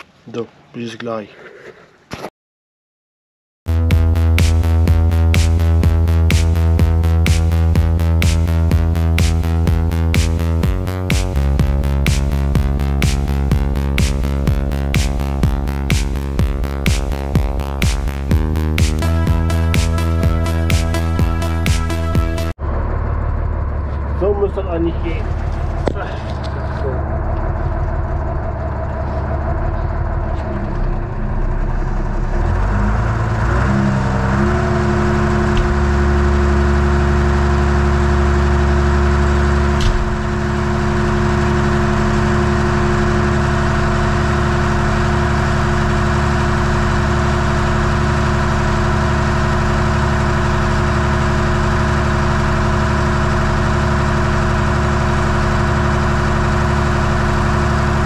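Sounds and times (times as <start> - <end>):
tractor diesel engine running: 3.7 - 58.0.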